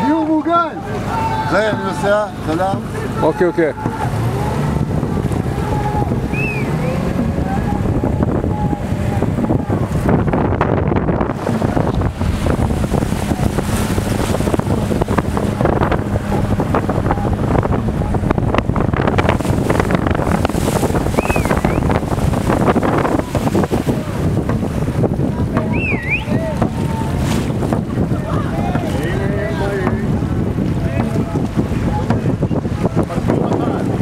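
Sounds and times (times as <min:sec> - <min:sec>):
water lapping against boat: 0:00.0 - 0:34.0
wind buffeting microphone: 0:00.0 - 0:34.0.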